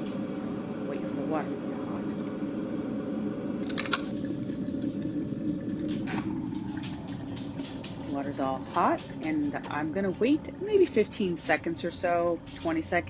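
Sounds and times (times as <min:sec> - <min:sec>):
kettle water rumbling and bubbling: 0:00.0 - 0:13.0.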